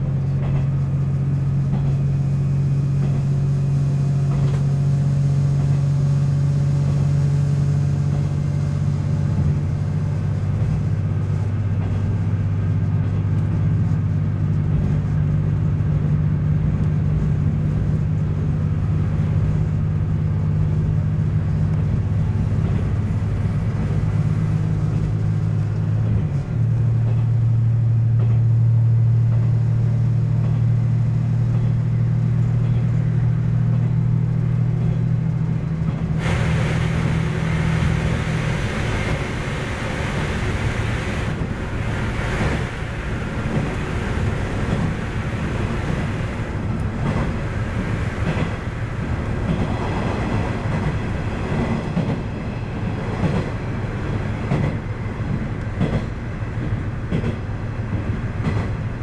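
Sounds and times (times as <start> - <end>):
diesel engine drone: 0.0 - 59.0
rail noise: 0.0 - 59.0.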